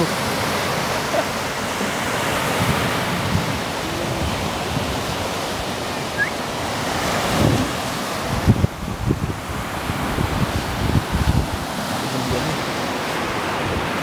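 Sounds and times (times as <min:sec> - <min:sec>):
waves washing up a beach: 0:00.0 - 0:14.0.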